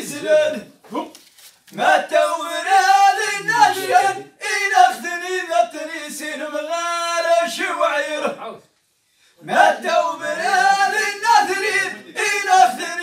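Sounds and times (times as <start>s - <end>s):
men singing unaccompanied: 0.0s - 0.8s, 1.8s - 8.3s, 9.4s - 13.0s.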